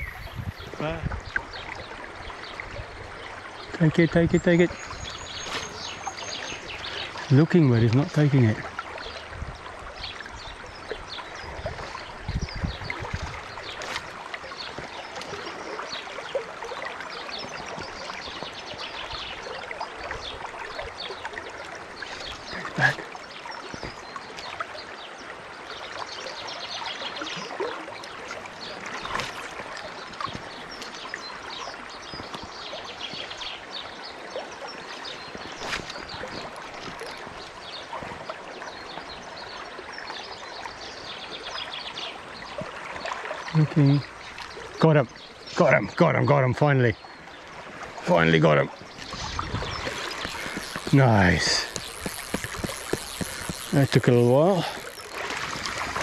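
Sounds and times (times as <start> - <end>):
creek babbling over gravel: 0.8 - 56.0.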